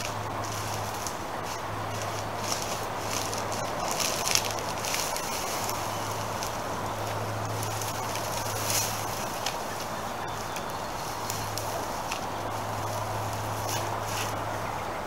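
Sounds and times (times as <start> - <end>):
dry grass rustling and crackling: 0.0 - 15.0
steady low hum: 0.0 - 15.0.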